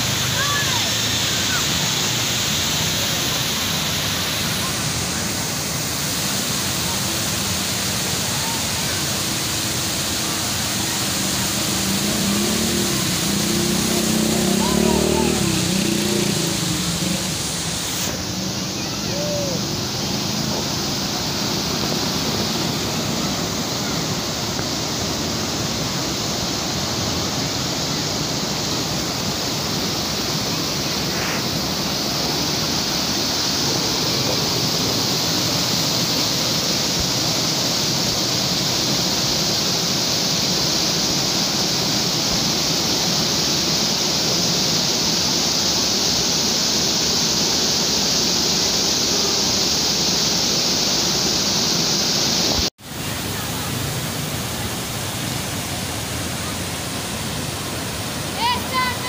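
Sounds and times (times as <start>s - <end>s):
water cascading over wall: 0.0s - 59.0s.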